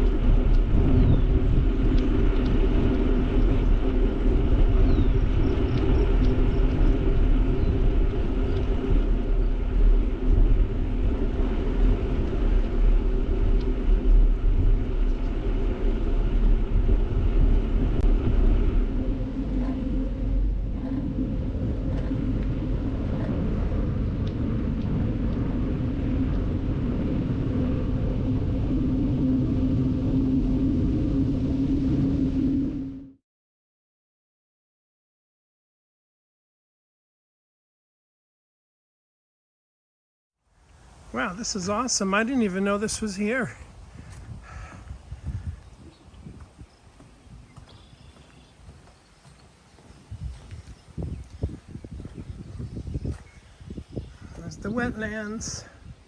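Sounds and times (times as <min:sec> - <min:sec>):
bicycle tyres rolling on trail: 0:00.0 - 0:33.1, 0:40.5 - 0:56.0
wind buffeting microphone: 0:00.0 - 0:33.2, 0:40.7 - 0:56.0.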